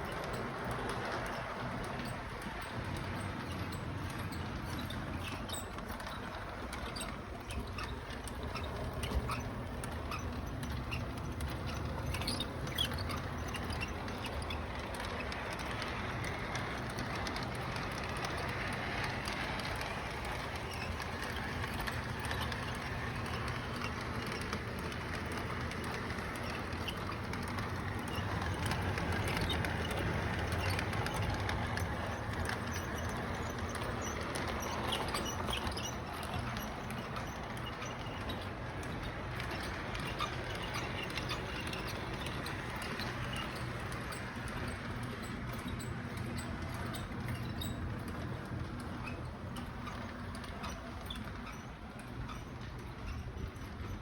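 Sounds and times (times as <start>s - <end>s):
light clicking and rattling: 0.0s - 54.0s.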